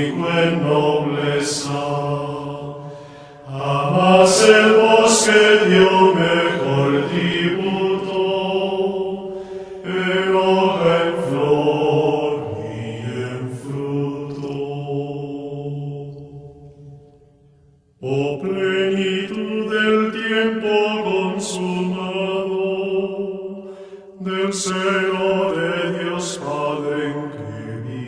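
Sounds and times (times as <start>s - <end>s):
chant sung in long held notes: 0.0s - 28.0s.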